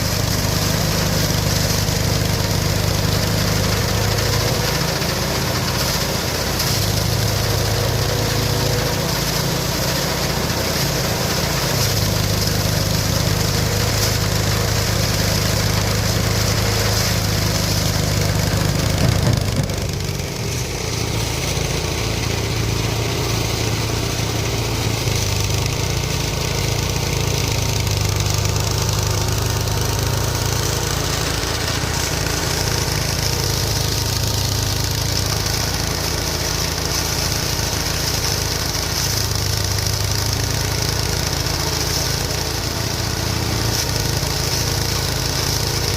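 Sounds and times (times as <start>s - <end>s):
threshing machine running: 0.0s - 45.9s.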